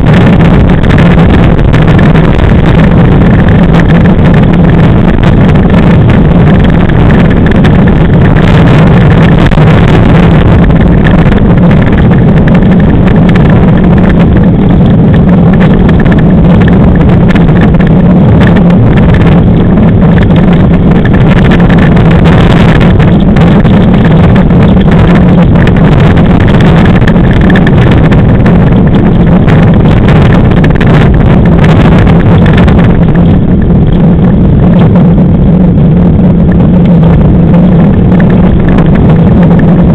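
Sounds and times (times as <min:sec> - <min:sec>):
steady low hum: 0:00.0 - 0:39.9
wheels rumbling: 0:00.0 - 0:39.9
wind rushing on microphone: 0:00.0 - 0:39.9.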